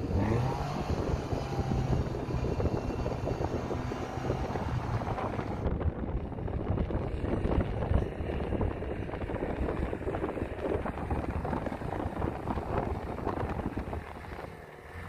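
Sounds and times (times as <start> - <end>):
wind on microphone: 0.0 - 14.6
off-road vehicle engine under load: 0.0 - 15.0.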